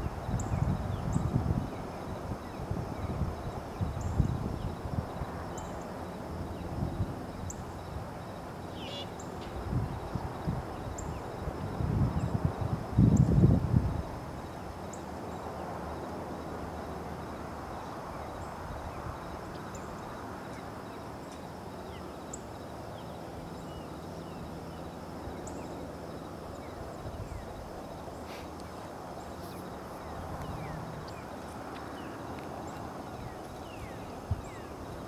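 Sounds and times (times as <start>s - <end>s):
steady low hiss: 0.0s - 35.0s.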